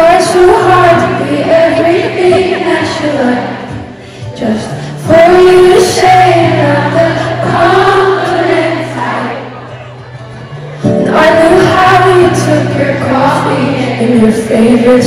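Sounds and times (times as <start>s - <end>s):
woman singing: 0.0s - 9.4s, 10.8s - 15.0s
acoustic guitar: 0.0s - 15.0s
crowd singing along: 0.0s - 15.0s.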